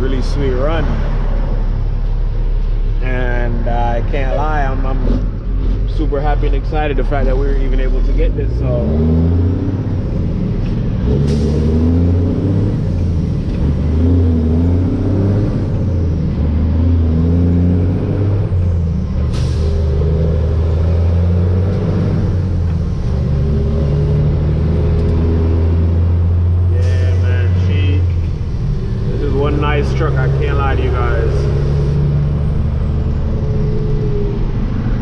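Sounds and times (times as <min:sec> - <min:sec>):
truck diesel engine revving: 0:03.0 - 0:35.0.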